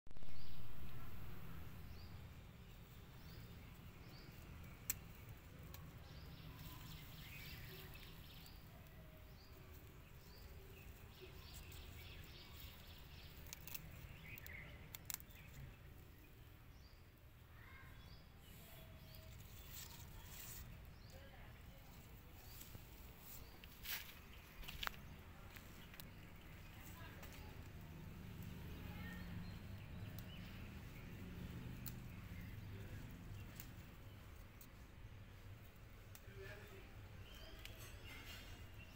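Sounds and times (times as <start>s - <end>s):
distant birds chirping: 0.1s - 38.9s.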